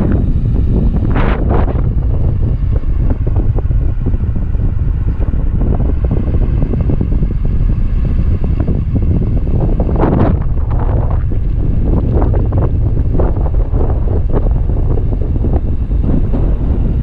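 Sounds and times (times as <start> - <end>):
motor running steadily: 0.0 - 17.0
wind buffeting microphone: 0.0 - 17.0.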